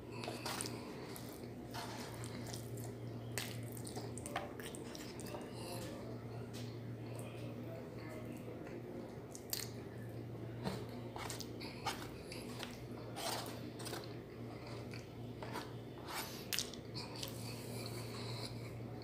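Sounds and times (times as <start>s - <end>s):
chewing: 0.1s - 6.0s, 8.0s - 15.7s, 16.3s - 18.8s.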